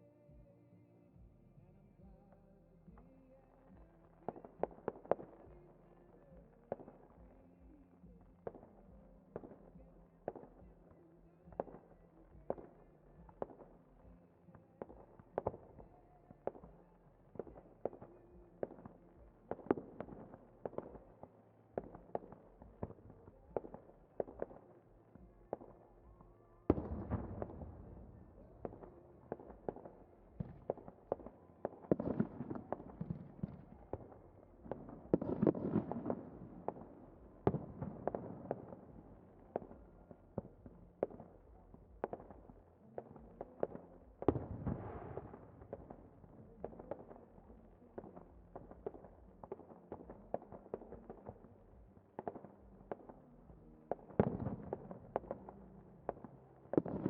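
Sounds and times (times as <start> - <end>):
fireworks bangs and crackling: 2.9 - 57.0.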